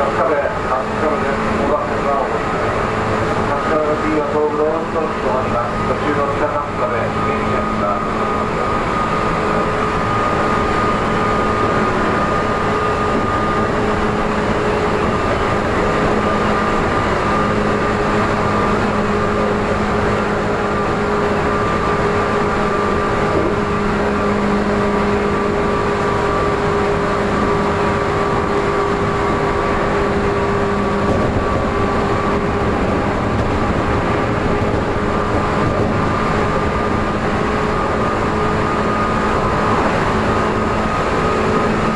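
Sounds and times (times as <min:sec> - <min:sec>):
train motor whine: 0:00.0 - 0:41.9
wheels rumbling on rails: 0:00.0 - 0:41.9.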